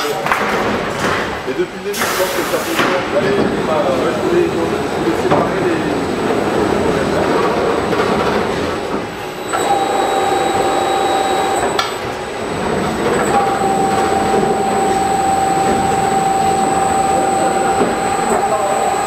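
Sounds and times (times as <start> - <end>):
wrapping machine mechanical hum: 0.0 - 19.0
steady machine whine: 3.6 - 19.0.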